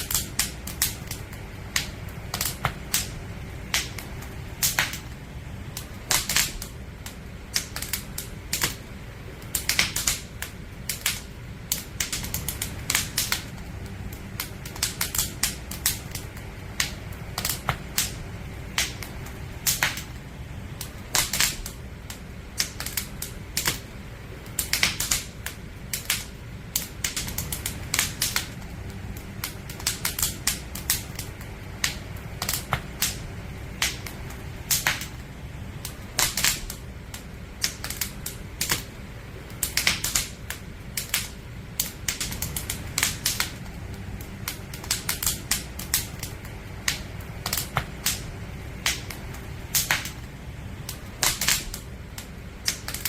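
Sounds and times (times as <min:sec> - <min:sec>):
campfire crackling and popping: 0:00.0 - 0:53.0
low rumble: 0:00.0 - 0:53.0.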